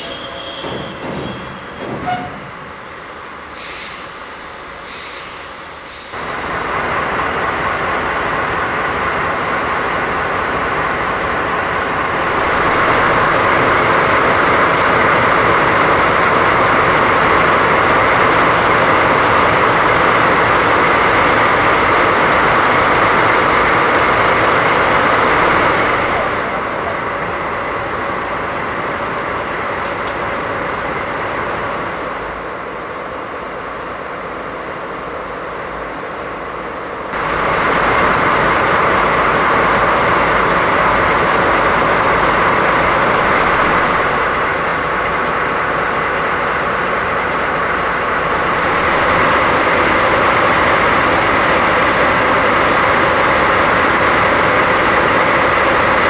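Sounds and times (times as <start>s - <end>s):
diesel locomotives running: 0.0s - 56.0s.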